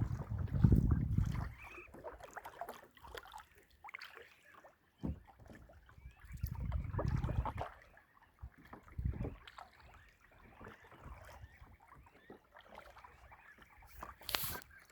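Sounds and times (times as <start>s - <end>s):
water lapping against a kayak: 0.0s - 14.9s.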